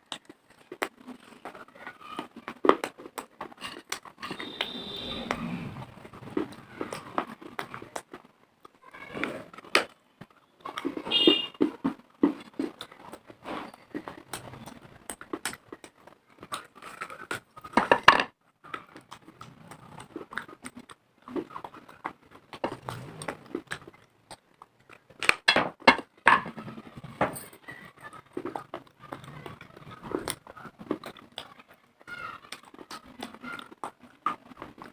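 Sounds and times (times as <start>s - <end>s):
person chewing crunchy clay: 0.0s - 17.9s, 18.5s - 34.9s.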